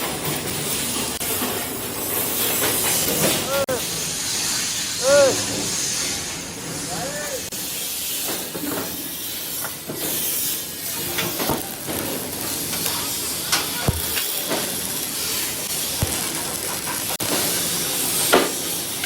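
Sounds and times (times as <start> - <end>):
steady workshop hiss: 0.0 - 19.0.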